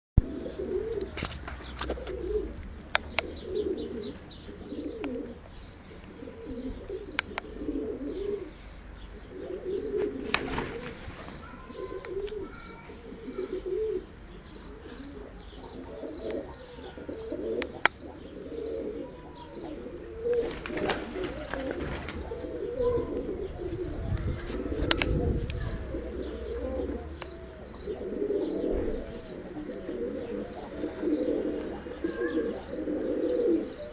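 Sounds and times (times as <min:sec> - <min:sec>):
sharp clicks: 0:00.2 - 0:13.4, 0:14.1 - 0:33.9
pigeons cooing: 0:00.2 - 0:33.9.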